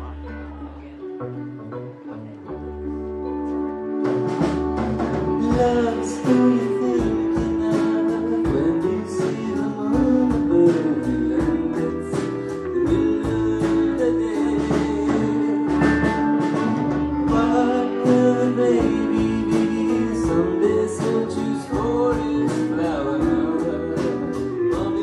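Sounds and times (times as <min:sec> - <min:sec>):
guitar: 0:00.0 - 0:25.0
person singing: 0:00.0 - 0:25.0.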